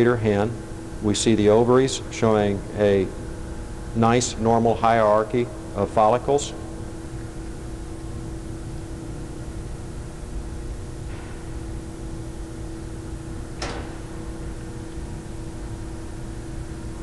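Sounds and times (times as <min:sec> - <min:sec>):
electrical machine hum: 0:00.0 - 0:17.0
low room rumble: 0:00.0 - 0:17.0.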